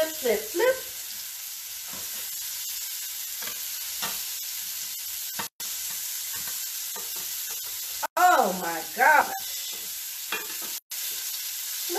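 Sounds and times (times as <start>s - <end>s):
shrimp sizzling in a frying pan: 0.0s - 11.9s.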